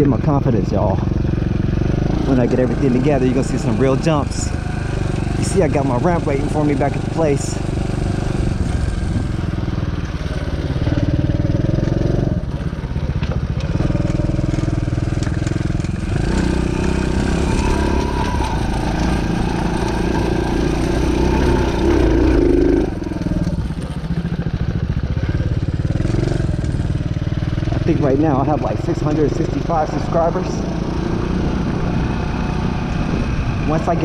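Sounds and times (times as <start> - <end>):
dirt bike engine revving: 0.8 - 34.0.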